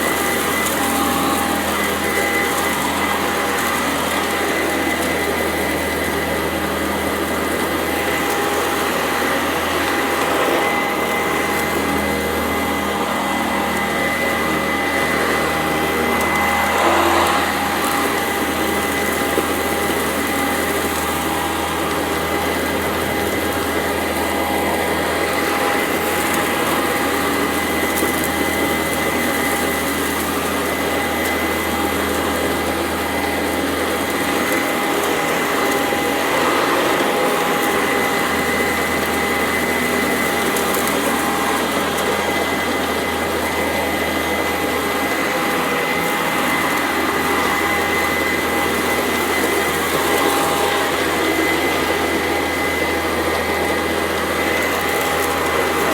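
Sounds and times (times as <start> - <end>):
vacuum cleaner motor whine: 0.0 - 55.9
vacuum crunching gritty dirt: 0.0 - 55.9.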